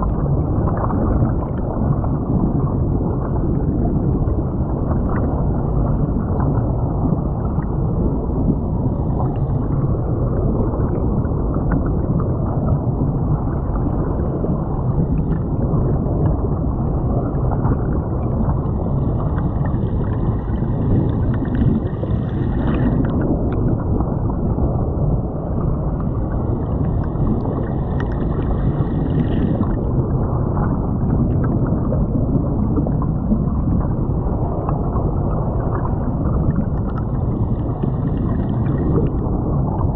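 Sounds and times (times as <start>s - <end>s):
muffled underwater water rumble: 0.0s - 39.9s.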